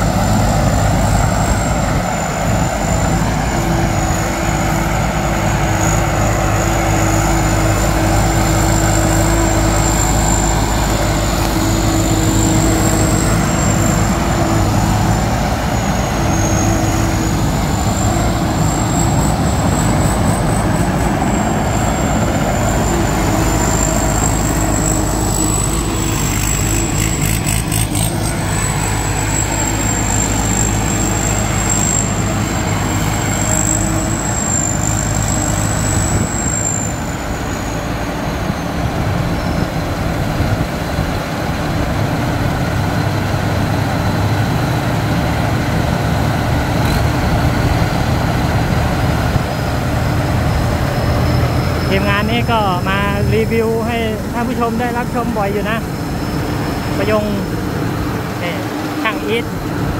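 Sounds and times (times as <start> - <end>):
thin high whine: 0.0 - 40.2, 46.6 - 59.9
diesel engine running: 0.0 - 59.9.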